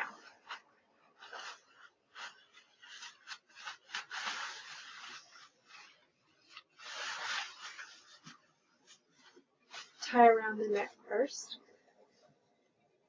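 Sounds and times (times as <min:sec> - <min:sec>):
gown rustling: 0:00.0 - 0:11.3.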